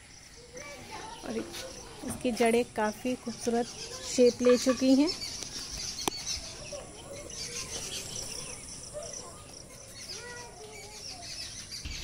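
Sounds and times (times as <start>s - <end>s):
faint high chirping: 0.0s - 12.0s.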